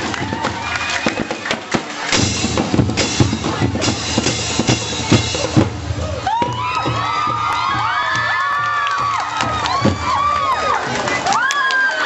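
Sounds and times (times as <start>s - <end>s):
marching drums playing a beat: 0.0s - 10.4s
crowd cheering and shouting: 0.0s - 12.0s.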